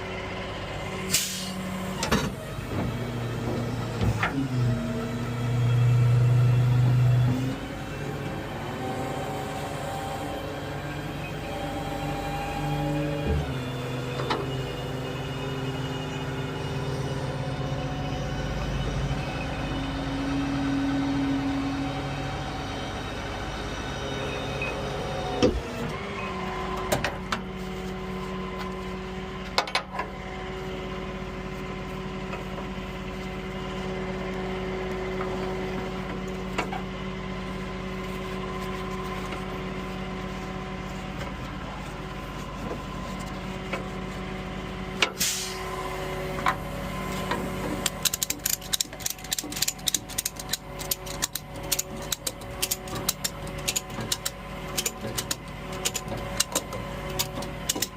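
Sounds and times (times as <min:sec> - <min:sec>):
tow truck engine running: 0:00.0 - 0:57.9.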